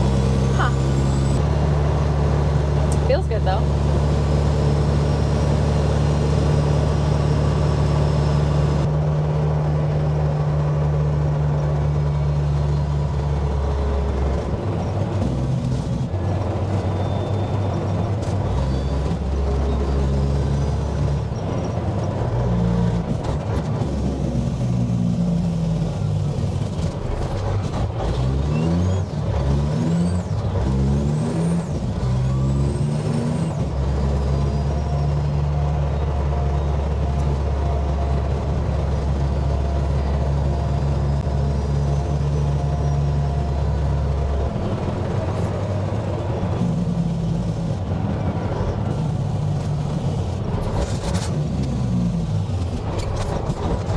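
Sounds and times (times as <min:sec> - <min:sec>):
diesel engine from inside cab: 0:00.0 - 0:53.9.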